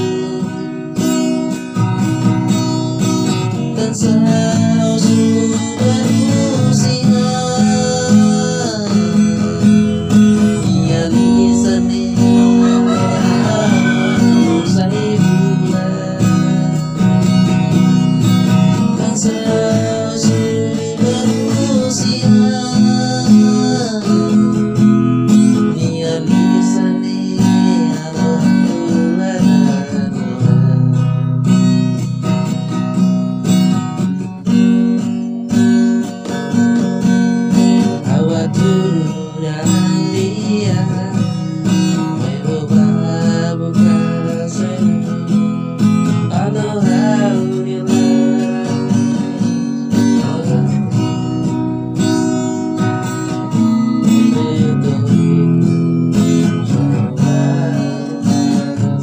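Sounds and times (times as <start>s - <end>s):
song with strummed acoustic guitar: 0.0s - 59.0s.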